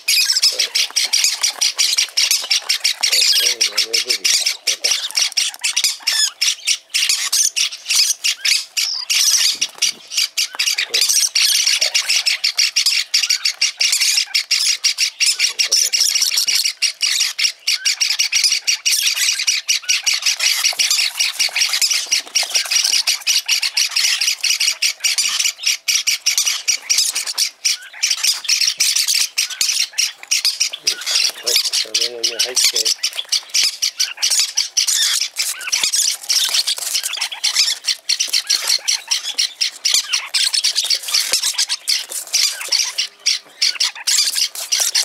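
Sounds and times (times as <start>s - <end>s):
bird chicks squawking: 0.0s - 45.0s.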